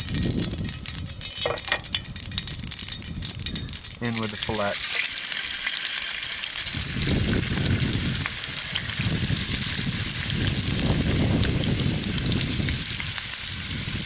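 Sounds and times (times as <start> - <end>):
fish sizzling in grease: 0.0 - 14.0.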